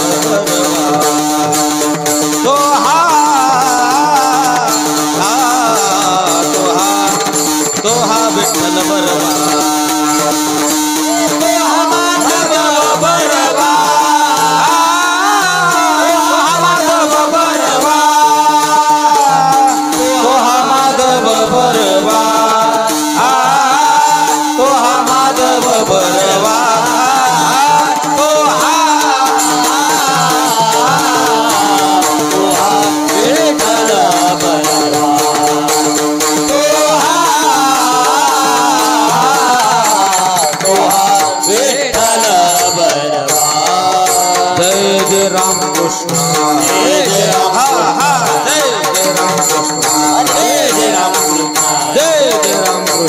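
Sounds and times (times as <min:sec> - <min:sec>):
jingling percussion: 0:00.0 - 0:53.0
man singing long high notes: 0:00.0 - 0:53.0.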